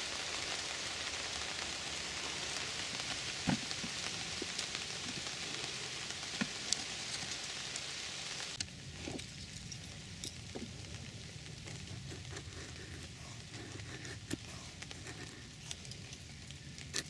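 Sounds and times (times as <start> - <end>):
raindrops striking close by: 0.0 - 17.0
steady rain hiss: 0.0 - 17.0.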